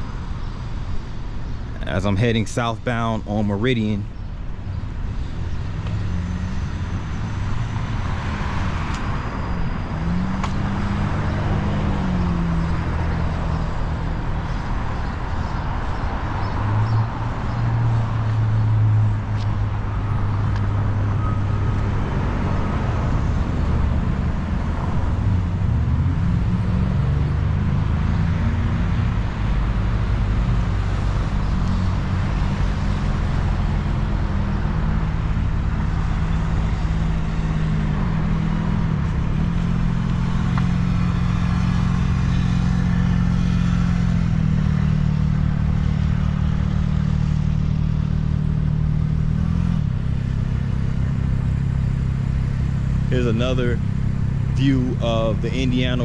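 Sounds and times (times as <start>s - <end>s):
car and truck engines passing: 0.0s - 56.0s.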